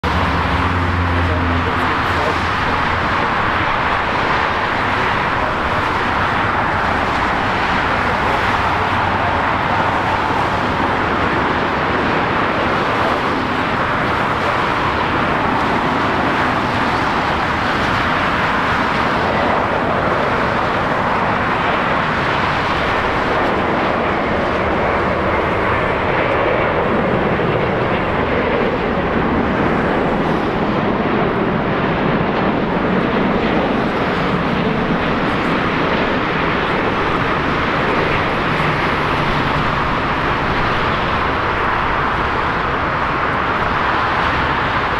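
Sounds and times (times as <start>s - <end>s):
jet engine rushing: 0.0s - 44.9s.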